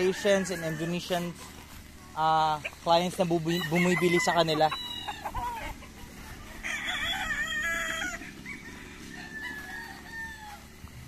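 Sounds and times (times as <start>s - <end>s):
rooster crowing: 0.0s - 1.8s, 3.2s - 11.0s
distant roosters crowing: 0.0s - 11.0s.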